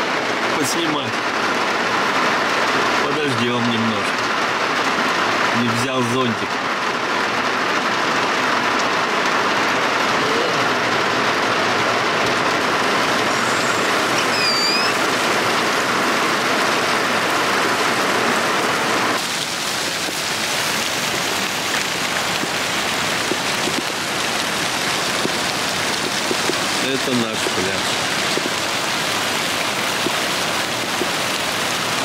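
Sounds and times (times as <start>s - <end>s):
heavy rain heard from inside car: 0.0s - 32.0s.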